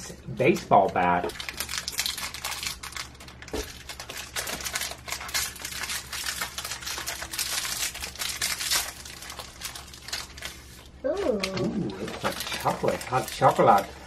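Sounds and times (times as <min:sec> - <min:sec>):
plastic wrappers crinkling: 0:00.4 - 0:14.0.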